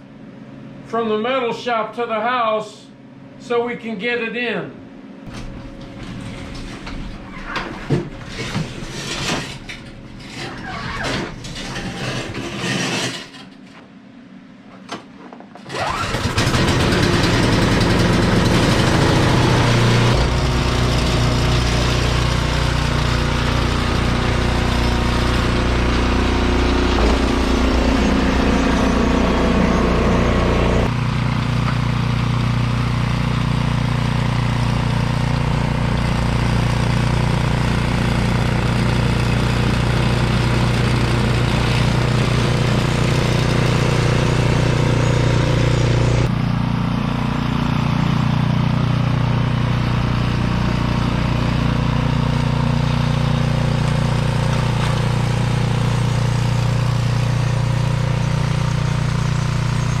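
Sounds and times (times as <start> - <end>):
snowblower engine running: 5.3 - 13.0, 15.6 - 60.0.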